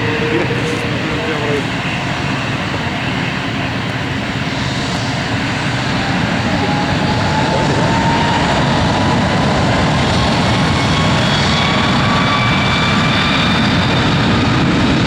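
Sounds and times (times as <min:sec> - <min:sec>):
thin rising whine: 0:00.0 - 0:12.8
airliner engines running: 0:00.0 - 0:15.0.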